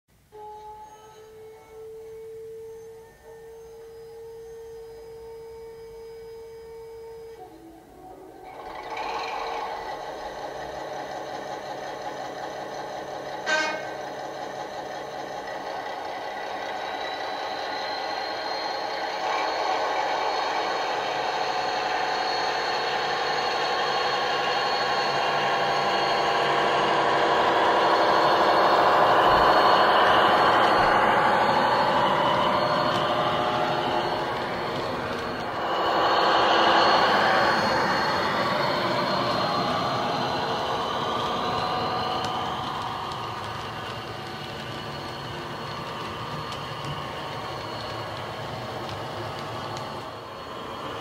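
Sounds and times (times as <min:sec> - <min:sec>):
high turbo whistle: 0:00.3 - 0:51.0.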